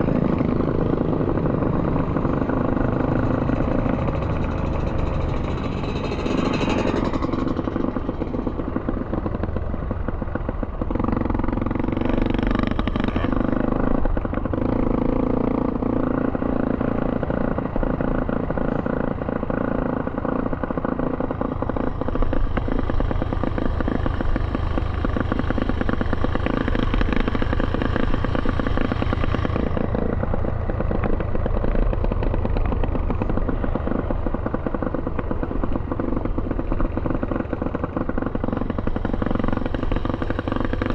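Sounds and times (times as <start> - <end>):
small off-road engine running: 0.0 - 40.9
three-wheeler passing: 0.0 - 40.9.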